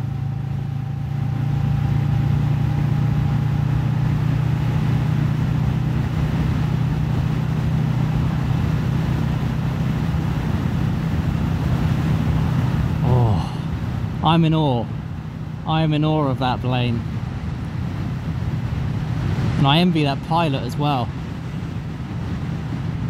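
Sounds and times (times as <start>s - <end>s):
motorcycle engine running steadily: 0.0s - 23.0s
wind and road noise: 0.0s - 23.0s.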